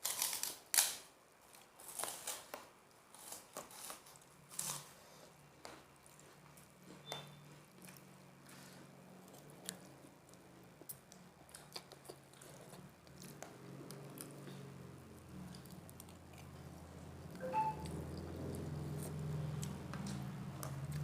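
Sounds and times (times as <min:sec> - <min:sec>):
quiet chewing of crackers: 0:00.0 - 0:21.0.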